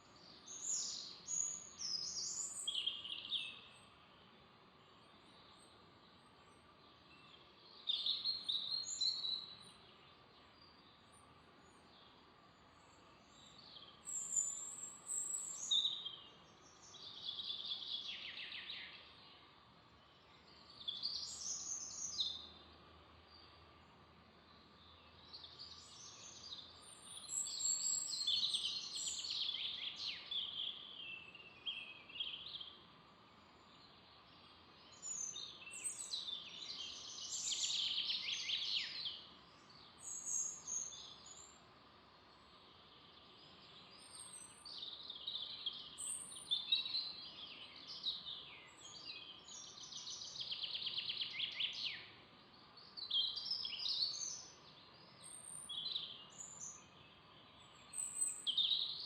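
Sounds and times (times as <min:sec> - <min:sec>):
faint background hiss: 0:00.0 - 0:59.0
songbirds warbling and chirping: 0:00.0 - 0:59.0.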